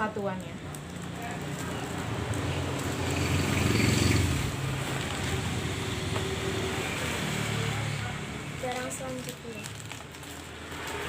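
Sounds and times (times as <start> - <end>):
steady traffic hum: 0.0 - 11.0.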